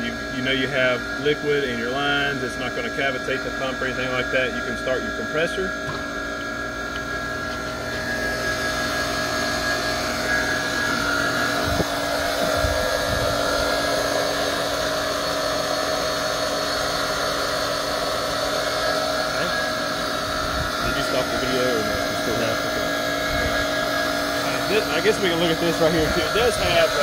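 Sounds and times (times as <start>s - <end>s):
chiller mechanical hum: 0.0s - 27.0s.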